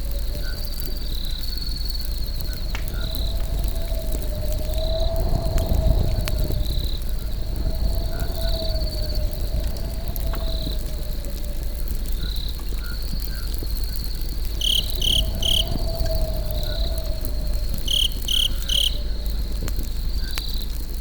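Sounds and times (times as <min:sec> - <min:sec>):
crickets chirping: 0:00.0 - 0:20.9
campfire crackling: 0:00.0 - 0:21.0.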